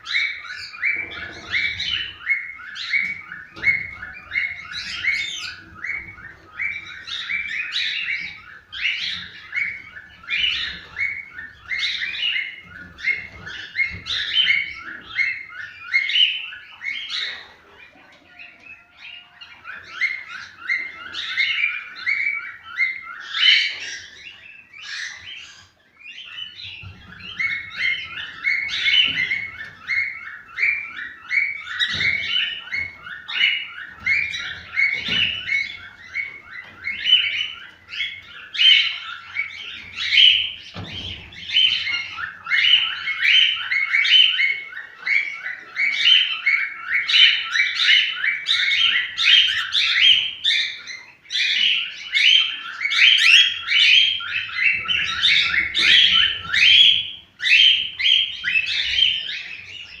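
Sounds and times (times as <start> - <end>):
cockatiels chirping and warbling: 0.0 - 60.0.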